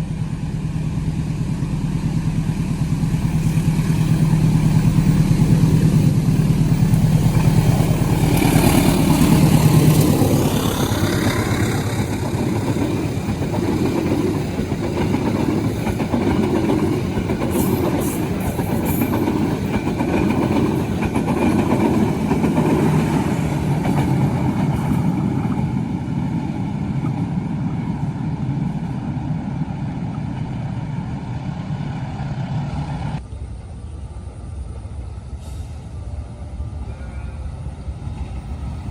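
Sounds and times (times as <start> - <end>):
diesel locomotive engine drone: 0.0 - 38.9
train carriages rumbling on rails: 0.0 - 38.9.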